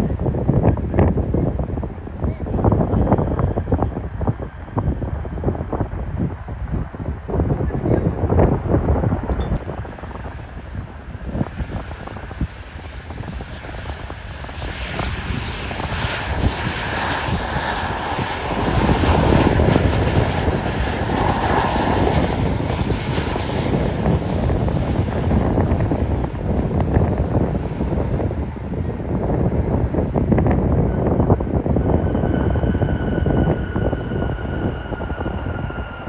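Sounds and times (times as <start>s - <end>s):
airliner jet engines: 0.0s - 36.0s
wind rumbling on microphone: 0.0s - 36.0s.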